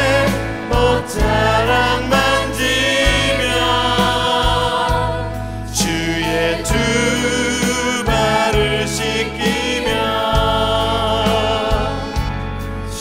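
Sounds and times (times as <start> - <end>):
drum and cymbal hits: 0.0 - 13.0
electric bass low notes: 0.0 - 13.0
people singing: 0.0 - 13.0.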